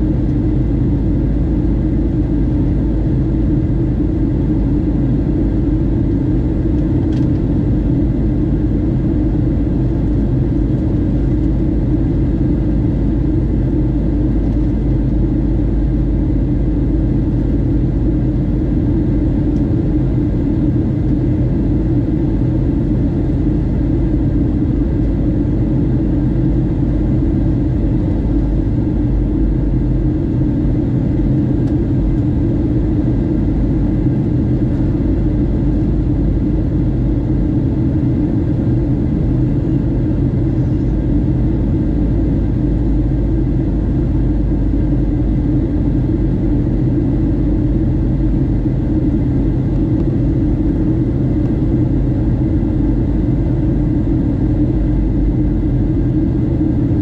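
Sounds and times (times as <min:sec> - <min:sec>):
airliner cabin engine rumble: 0:00.0 - 0:57.0
faint steady whine: 0:00.0 - 0:57.0.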